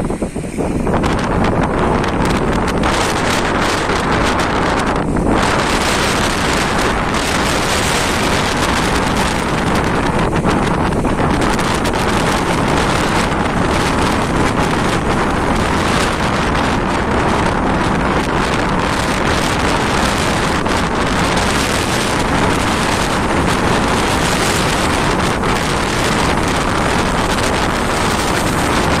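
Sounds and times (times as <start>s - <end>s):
waves breaking against seawall: 0.0s - 29.0s
wind buffeting microphone: 0.0s - 29.0s.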